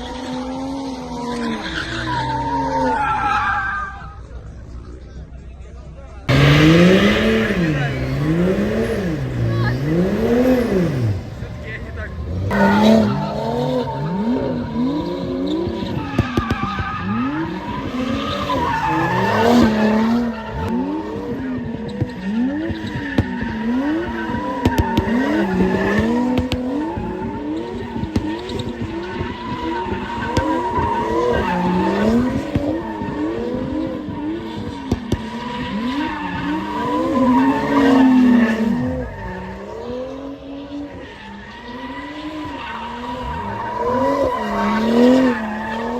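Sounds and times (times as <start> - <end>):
tyres squealing on tarmac: 0.9 - 4.5, 6.3 - 45.9
car engine revving: 6.1 - 45.9.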